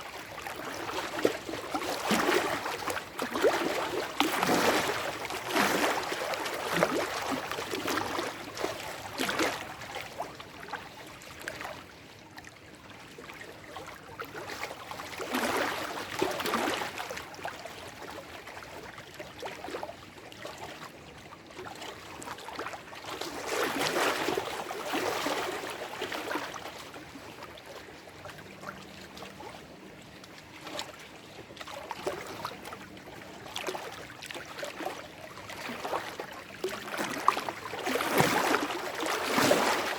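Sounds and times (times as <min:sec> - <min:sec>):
lake waves lapping over rocks: 0:00.1 - 0:12.0, 0:13.3 - 0:39.9.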